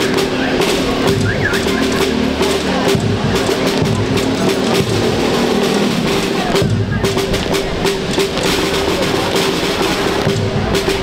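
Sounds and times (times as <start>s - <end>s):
marching rhythm band playing: 0.0s - 11.0s
snare and bass drums: 0.0s - 11.0s.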